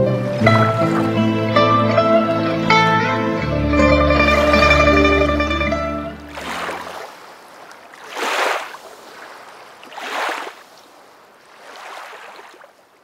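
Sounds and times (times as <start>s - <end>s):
water flowing in surges: 0.0s - 13.0s.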